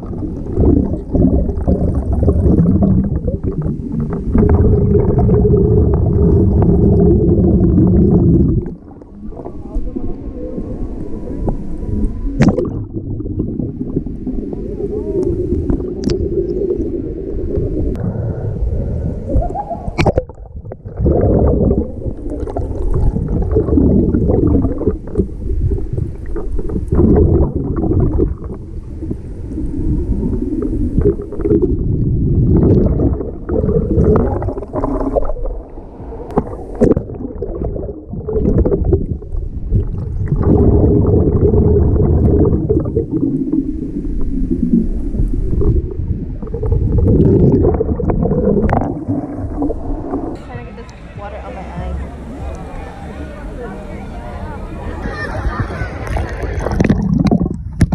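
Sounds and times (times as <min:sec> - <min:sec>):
muffled underwater sloshing: 0:00.0 - 0:57.9.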